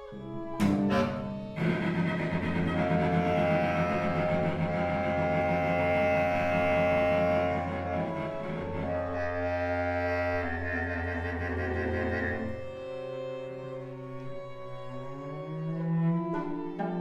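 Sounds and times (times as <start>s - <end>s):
slow bowed strings: 0.0s - 17.0s.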